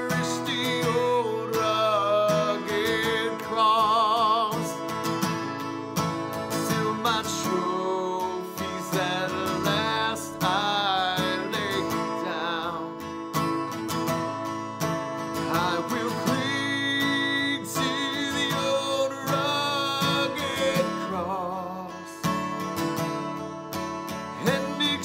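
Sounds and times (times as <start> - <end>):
country music melody with vibrato: 0.0 - 25.0
strummed acoustic guitar: 0.0 - 25.0.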